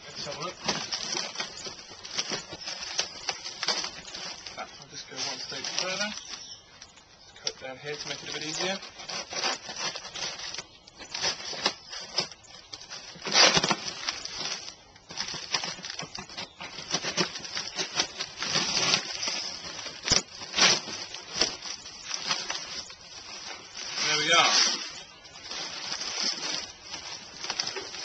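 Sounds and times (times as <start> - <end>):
cardboard ripping and rustling: 0.0 - 6.6, 7.9 - 28.0.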